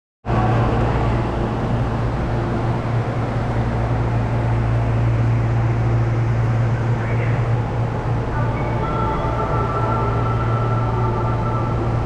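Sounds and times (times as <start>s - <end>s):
train equipment low hum: 0.2s - 12.0s.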